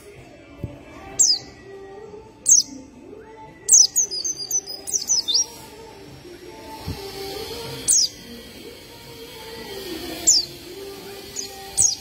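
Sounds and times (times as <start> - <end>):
bird high chirping notes: 1.0 - 12.0.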